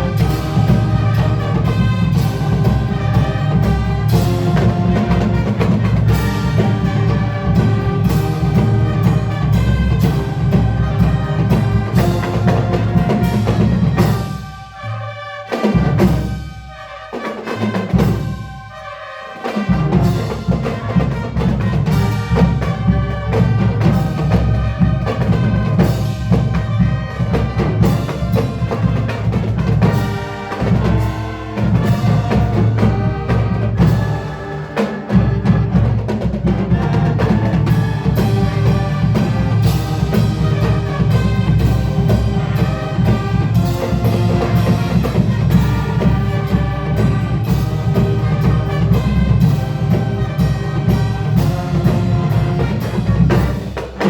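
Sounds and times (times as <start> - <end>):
marching band brass: 0.0 - 54.0
marching band drums: 0.0 - 54.0.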